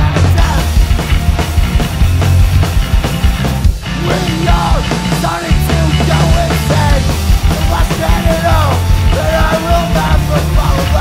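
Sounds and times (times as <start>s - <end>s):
hardcore punk rock music: 0.0s - 11.0s.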